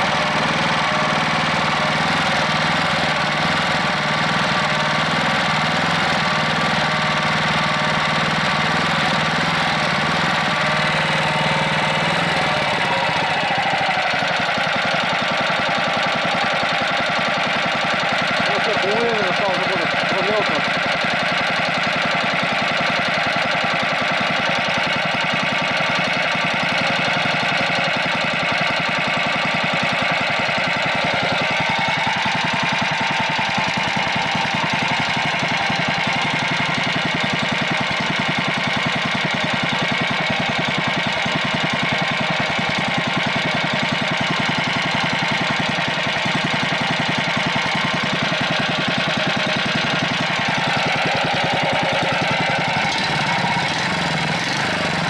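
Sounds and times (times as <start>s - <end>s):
single-cylinder engine running: 0.0s - 55.0s.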